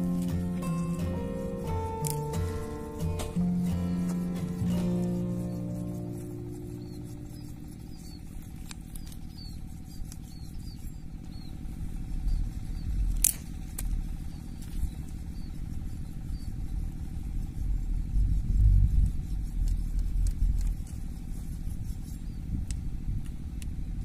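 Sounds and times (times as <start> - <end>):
low uneven rumble: 0.0 - 24.0.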